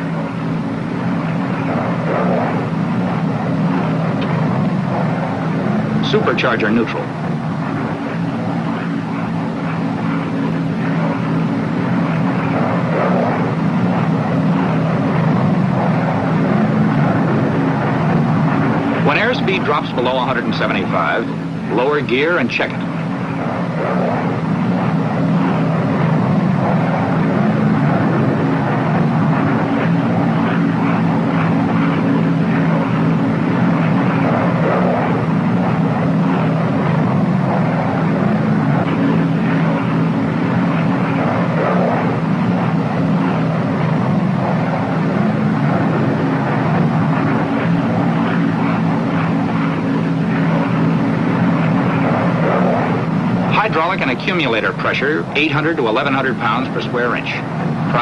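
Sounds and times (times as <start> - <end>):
piston aircraft engines droning: 0.0 - 58.0.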